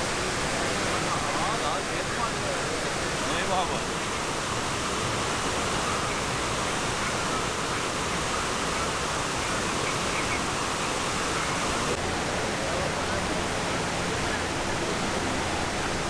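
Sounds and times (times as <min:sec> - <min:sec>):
water cascading down walls: 0:00.0 - 0:16.0.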